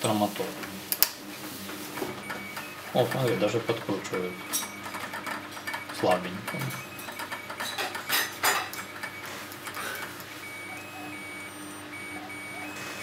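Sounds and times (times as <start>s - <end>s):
electronic beeping tune through motor: 1.9s - 13.0s.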